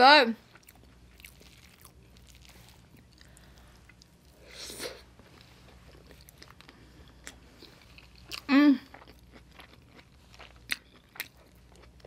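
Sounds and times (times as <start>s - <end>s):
person chewing: 0.4s - 12.0s.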